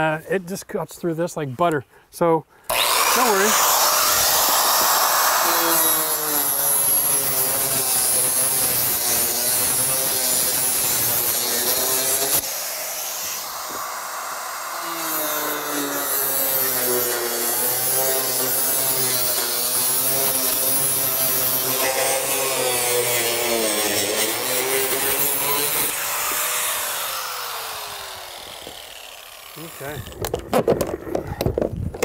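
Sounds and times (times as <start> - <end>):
angle grinder cutting siding: 2.7 - 31.5.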